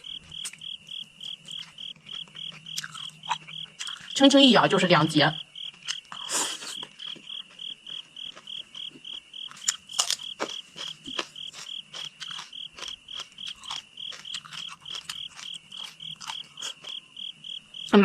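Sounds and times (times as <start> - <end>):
person chewing: 0.0 - 4.2, 5.6 - 17.9
cricket chirping: 0.0 - 18.0.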